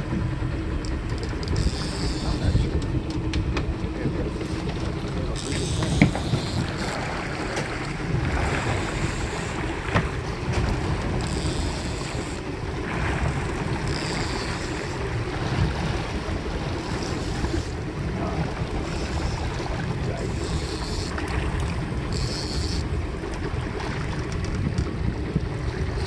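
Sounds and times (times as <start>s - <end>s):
boat engine rumble: 0.0s - 26.0s
wind buffeting microphone: 0.0s - 26.0s
water rushing: 1.1s - 26.0s.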